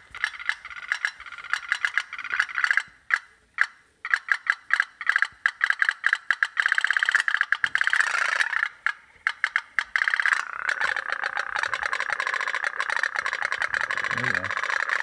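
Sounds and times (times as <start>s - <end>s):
toy steamboat rapid sharp ticks: 0.0s - 15.0s.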